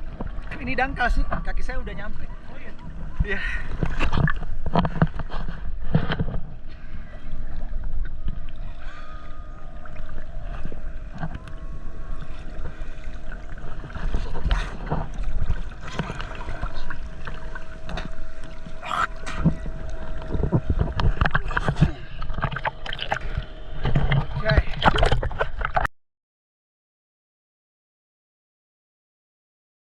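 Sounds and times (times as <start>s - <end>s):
faint steady hum: 0.0s - 25.8s
seawater sloshing and splashing: 0.0s - 25.9s.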